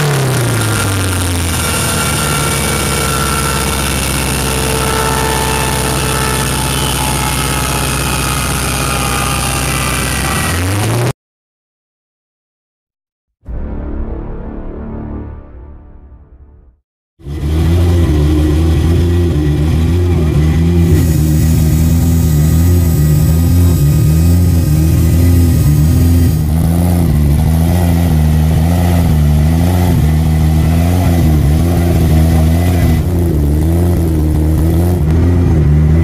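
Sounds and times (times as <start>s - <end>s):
car engine running: 0.0s - 11.1s, 17.2s - 36.0s.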